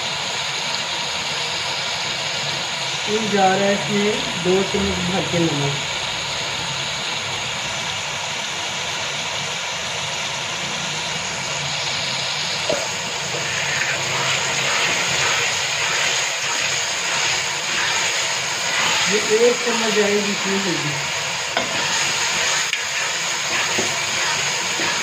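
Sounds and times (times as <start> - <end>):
meat sizzling in hot oil: 0.0 - 25.0.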